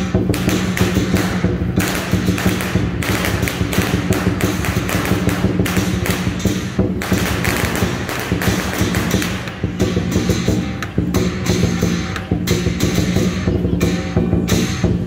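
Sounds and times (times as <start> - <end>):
big drum beating: 0.0 - 15.0
cymbals clashing: 0.0 - 15.0.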